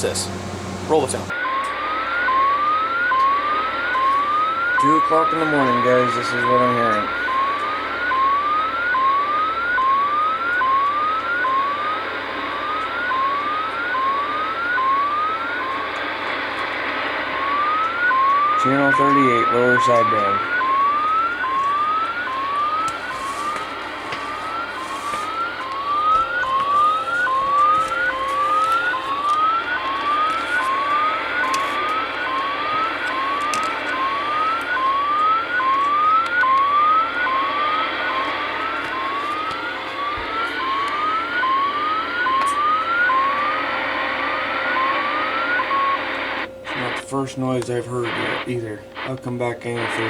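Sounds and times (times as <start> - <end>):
radio static: 0.0 - 50.0.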